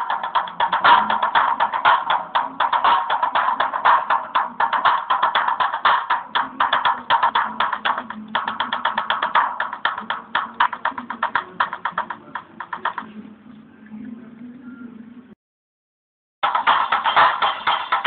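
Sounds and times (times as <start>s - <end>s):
music with fast percussive beat: 0.0s - 13.1s, 16.4s - 18.0s.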